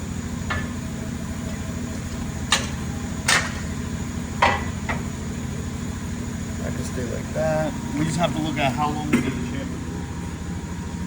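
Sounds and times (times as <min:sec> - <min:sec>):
milling machine humming: 0:00.0 - 0:11.0.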